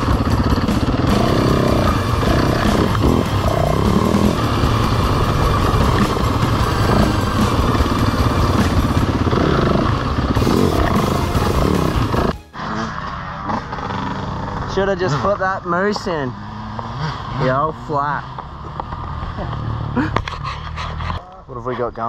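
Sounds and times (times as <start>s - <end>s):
dirt bike engine revving: 0.0s - 21.1s.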